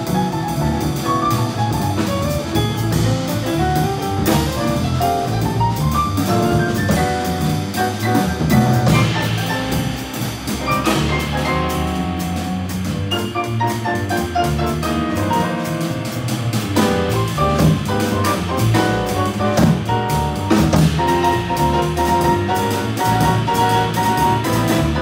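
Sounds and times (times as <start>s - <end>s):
drum kit with cymbals: 0.0s - 25.0s
grand piano: 0.0s - 25.0s
upright bass walking: 0.0s - 25.0s.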